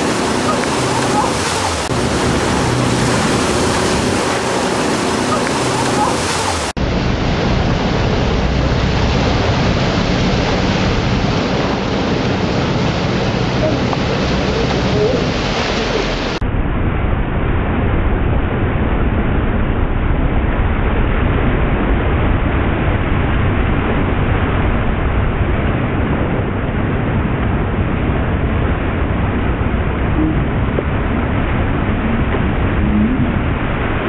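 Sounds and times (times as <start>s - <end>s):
boat engine drone: 0.0s - 34.0s
boat wake rushing: 0.0s - 34.0s.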